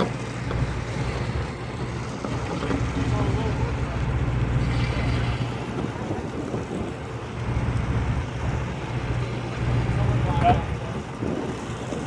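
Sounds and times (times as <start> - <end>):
boat engine droning: 0.0 - 12.0
wind and water rushing: 0.0 - 12.0.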